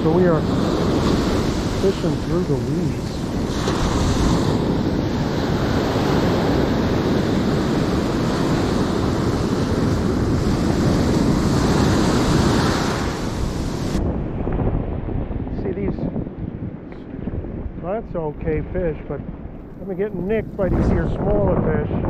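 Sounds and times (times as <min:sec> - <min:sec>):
ocean surf breaking: 0:00.0 - 0:16.8, 0:17.5 - 0:21.7
wind noise on microphone: 0:00.0 - 0:22.0.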